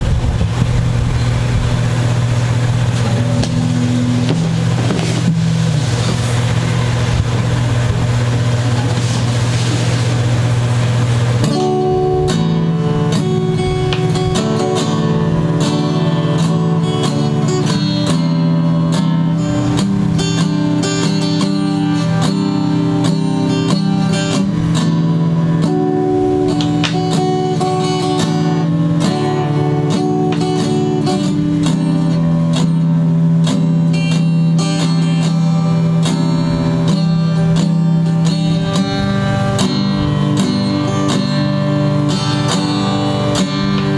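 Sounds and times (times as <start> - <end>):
acoustic guitar music: 0.0 - 43.9.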